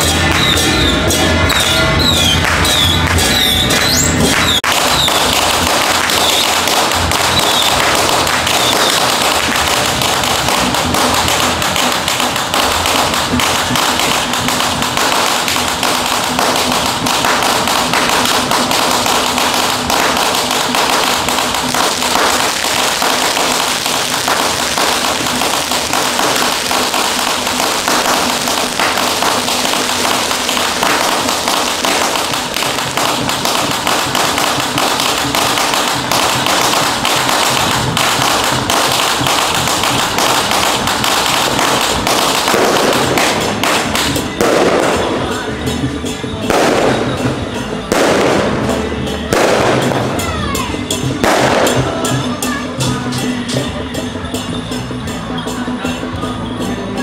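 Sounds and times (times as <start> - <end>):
firecrackers popping: 0.0 - 57.0.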